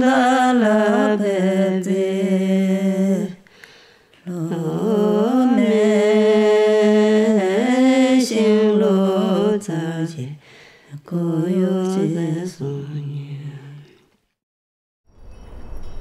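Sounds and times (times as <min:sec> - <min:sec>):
person singing chant-like melody: 0:00.0 - 0:03.4, 0:04.2 - 0:14.0.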